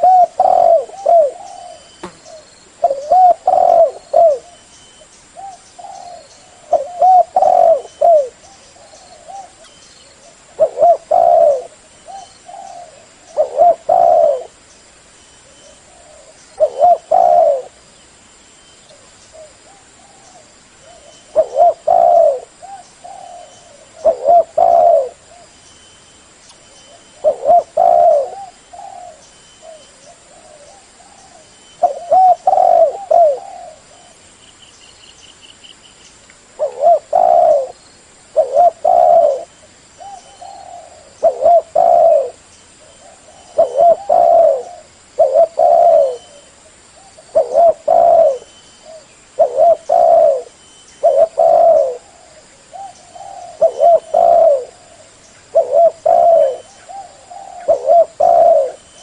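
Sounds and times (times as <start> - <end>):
dove cooing: 0.0 - 4.7, 5.4 - 14.6, 15.4 - 17.8, 18.9 - 25.5, 26.9 - 34.2, 36.6 - 59.0.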